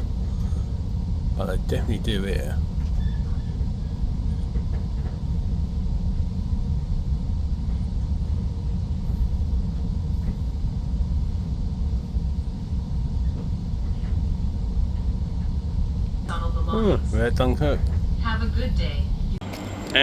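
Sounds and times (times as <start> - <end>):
faint steady hum: 0.0 - 20.0
train rumble inside carriage: 0.0 - 20.0.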